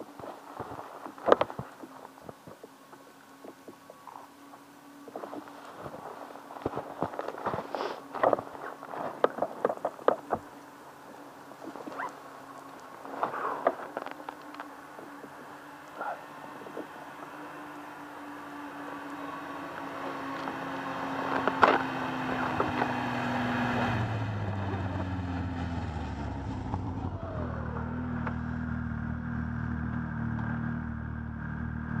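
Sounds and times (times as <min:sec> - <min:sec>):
snowmobile engine: 0:00.0 - 0:32.0.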